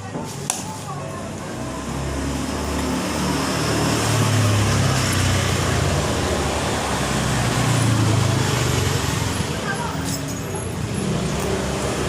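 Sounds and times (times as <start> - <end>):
vehicle engine rumbling: 1.1 - 12.0.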